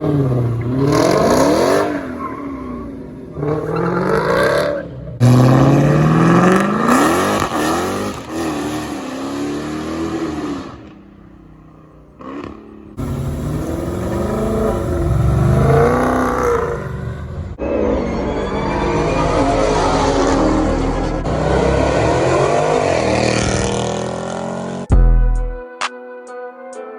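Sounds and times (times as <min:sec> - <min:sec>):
car engines revving and accelerating: 0:00.0 - 0:17.9, 0:18.9 - 0:24.9.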